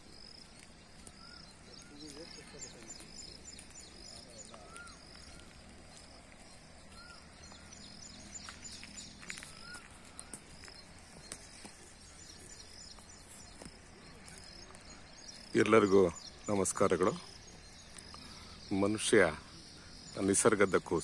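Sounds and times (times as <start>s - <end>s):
high bird chirps: 0.0s - 21.0s
whistled bird notes: 1.0s - 21.0s.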